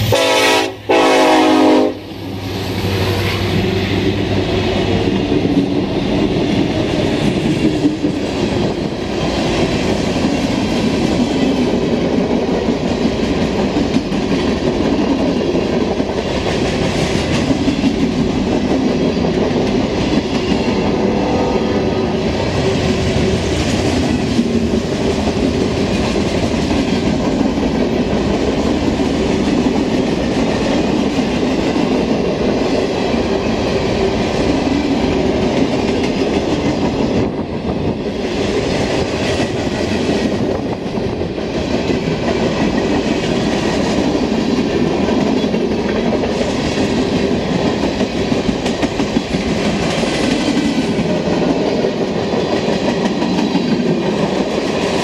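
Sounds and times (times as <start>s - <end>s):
steel train wheels on rails: 0.0s - 55.0s.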